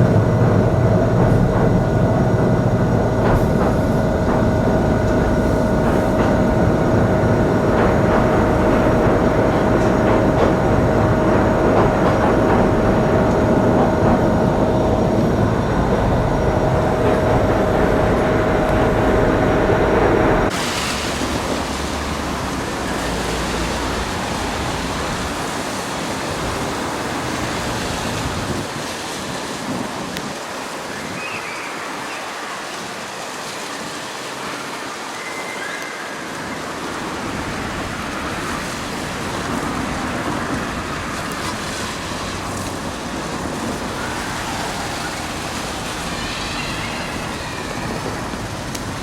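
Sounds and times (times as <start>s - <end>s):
train rumble and hiss: 0.0s - 49.0s.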